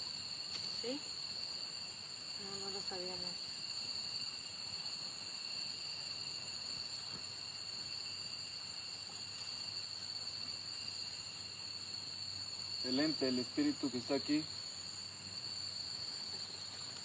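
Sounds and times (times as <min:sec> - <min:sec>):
faint hiss: 0:00.0 - 0:17.0
night insects trilling: 0:00.0 - 0:17.0.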